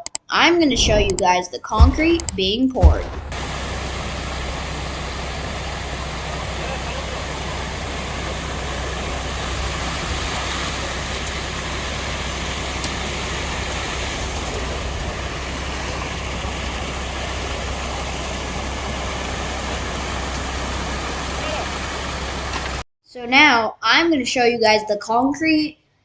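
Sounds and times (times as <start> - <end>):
truck engine rumbling: 0.6 - 22.8.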